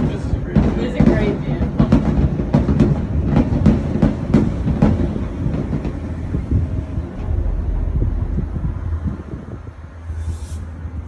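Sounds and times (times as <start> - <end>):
gondola cabin rumble: 1.2 - 11.0.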